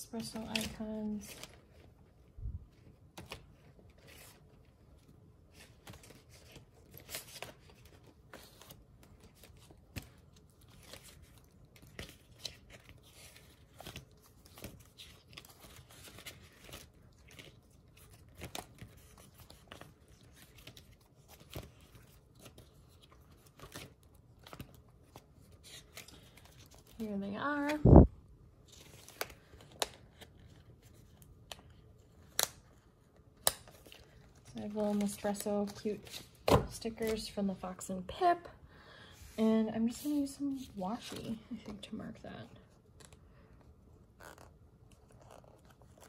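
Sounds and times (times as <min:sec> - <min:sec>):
paper sticker sheets rustling: 0:00.1 - 0:38.2.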